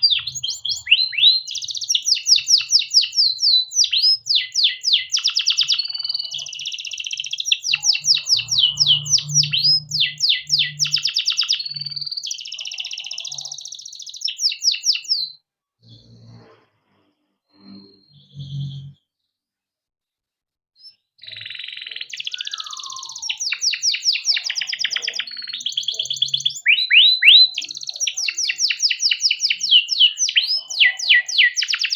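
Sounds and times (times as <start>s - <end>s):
canary singing: 0.0s - 16.2s, 17.7s - 19.0s, 20.8s - 31.9s.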